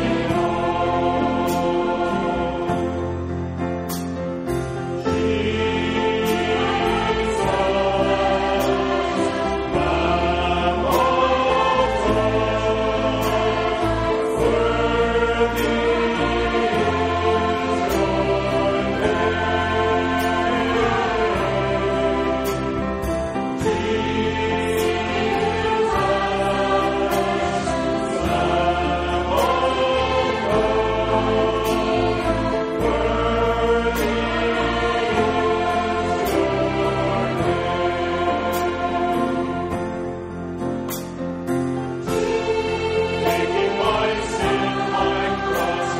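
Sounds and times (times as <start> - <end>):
choir singing a hymn: 0.0 - 4.2, 5.0 - 41.2, 42.0 - 45.9.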